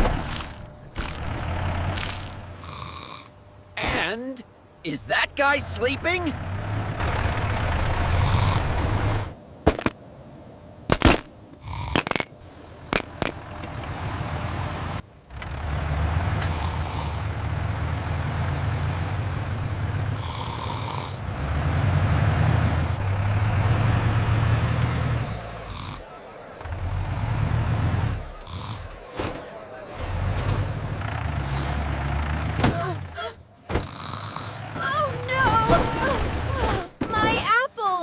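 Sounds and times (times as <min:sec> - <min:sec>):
tractor engine humming: 0:00.0 - 0:38.0.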